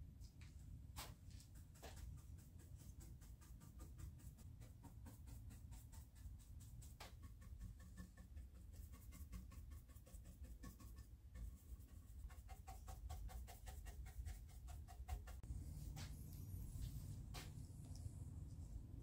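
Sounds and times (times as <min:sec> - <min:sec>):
brush scratching on surface: 0:01.0 - 0:19.0.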